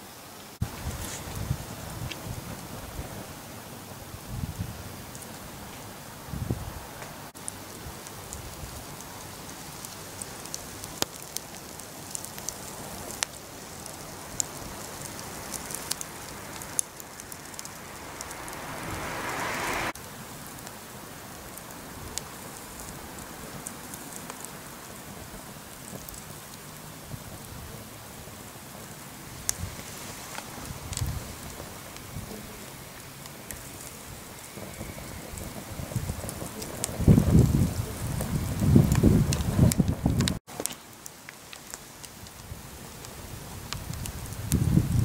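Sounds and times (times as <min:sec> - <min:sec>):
fire hissing: 0:00.0 - 0:45.0
log fire crackling and popping: 0:00.3 - 0:06.3, 0:07.0 - 0:45.0.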